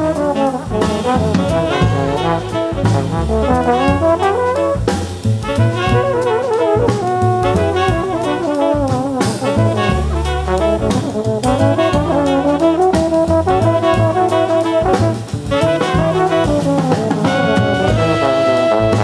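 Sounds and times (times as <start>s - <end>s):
double bass: 0.0s - 19.0s
drum kit with cymbals: 0.0s - 19.0s
horns playing held notes: 0.0s - 19.0s.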